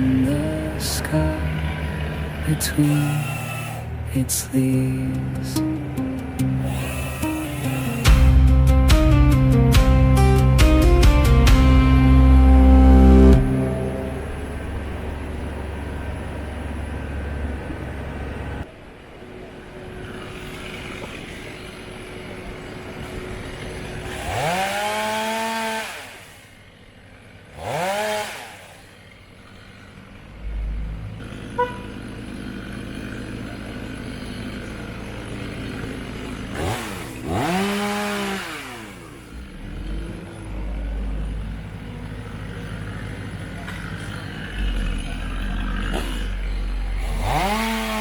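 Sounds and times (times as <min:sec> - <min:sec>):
power saw revving: 0:00.0 - 0:18.7, 0:20.0 - 0:48.0
heavy machine engine running: 0:00.0 - 0:25.6, 0:28.8 - 0:48.0.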